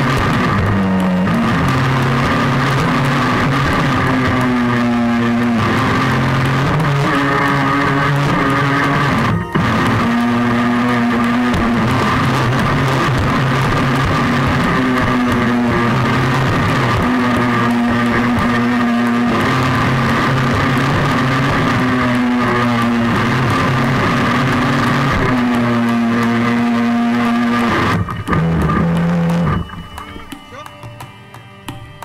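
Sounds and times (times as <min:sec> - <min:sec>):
music with sustained chords: 0:00.0 - 0:32.0.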